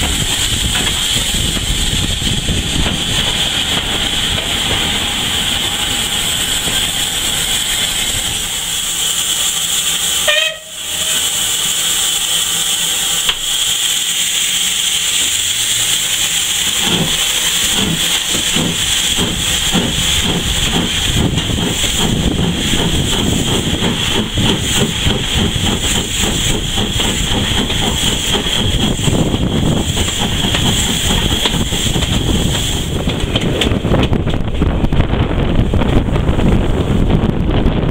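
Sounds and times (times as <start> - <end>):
steam locomotive hissing steam: 0.0 - 37.2.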